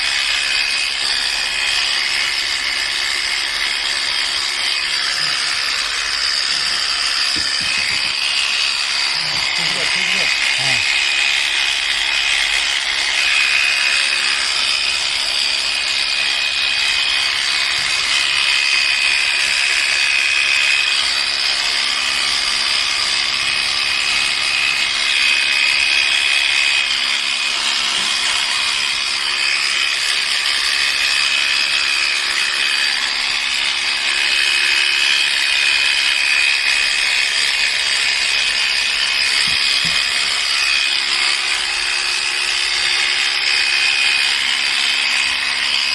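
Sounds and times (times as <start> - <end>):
electric clippers whining: 0.0 - 45.9.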